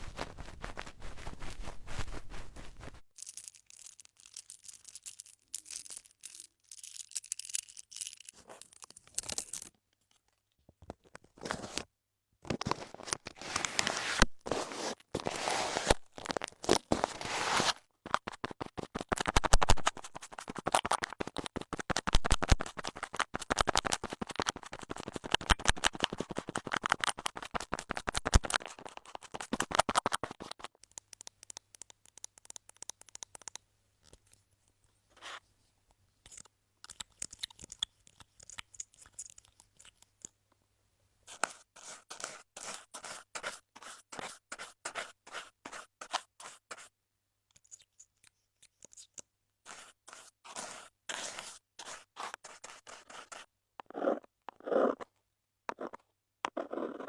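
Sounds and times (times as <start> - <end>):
close scratching and crackles: 0.0 - 11.9, 12.5 - 35.6, 36.2 - 40.4, 41.2 - 57.0.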